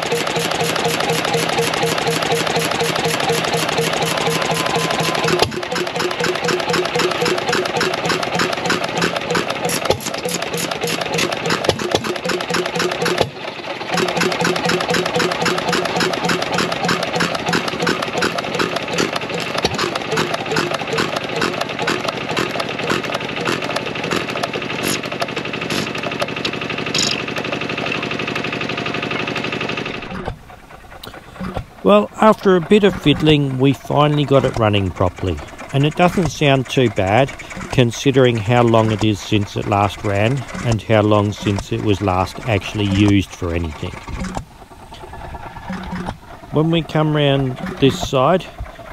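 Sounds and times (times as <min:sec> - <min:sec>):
stationary engine running: 0:00.0 - 0:48.9.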